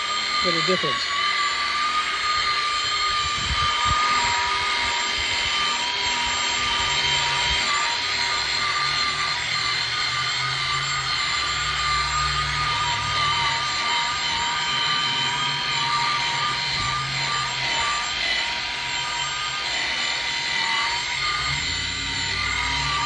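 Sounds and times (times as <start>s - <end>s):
electric polisher motor whine: 0.0s - 23.0s.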